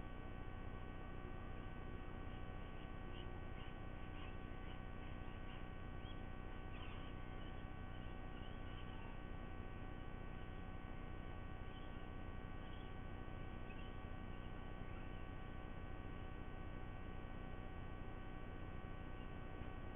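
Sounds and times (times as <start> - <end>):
steady electrical hum: 0.0 - 19.9.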